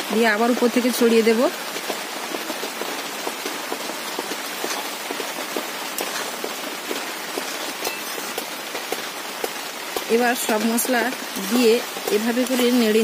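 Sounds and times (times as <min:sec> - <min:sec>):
heavy rain on a roof: 0:00.0 - 0:13.0.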